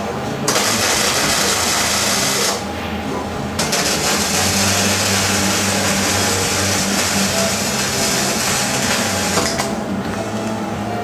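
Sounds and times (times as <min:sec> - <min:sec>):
steady low hum: 0:00.0 - 0:11.0
welder arc crackling: 0:00.4 - 0:10.6.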